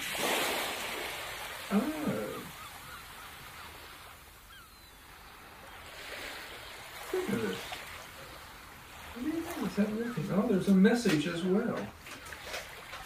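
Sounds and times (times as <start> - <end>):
waves washing in: 0.0 - 13.0.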